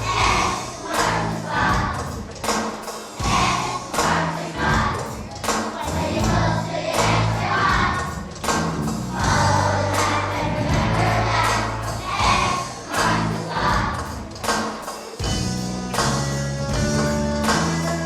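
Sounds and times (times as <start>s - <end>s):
children's choir singing: 0.0s - 15.0s
instrumental accompaniment with beat: 0.0s - 18.0s.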